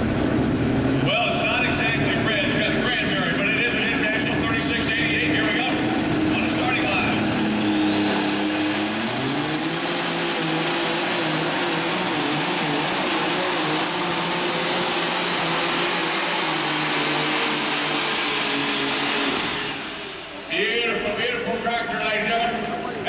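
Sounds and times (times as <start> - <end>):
tractor engine at full throttle: 0.0 - 23.0.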